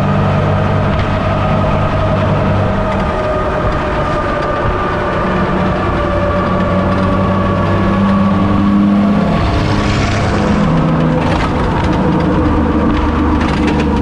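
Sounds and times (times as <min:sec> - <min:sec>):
diesel truck engine driving: 0:00.0 - 0:14.0.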